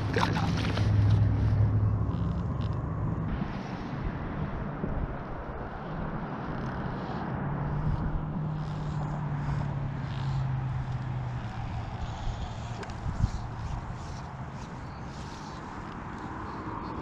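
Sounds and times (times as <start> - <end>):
shallow river flowing: 0.0 - 2.7, 3.3 - 17.0
low hum: 0.0 - 17.0.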